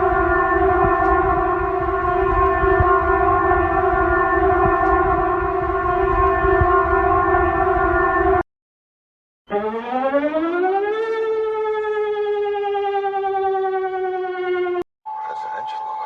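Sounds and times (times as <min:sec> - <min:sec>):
warning siren steady tone: 0:00.0 - 0:08.4, 0:09.4 - 0:16.0.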